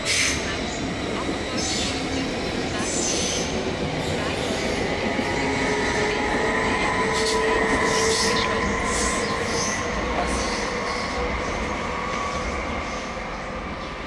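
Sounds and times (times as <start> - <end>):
train rumble and electric whine: 0.0 - 14.0.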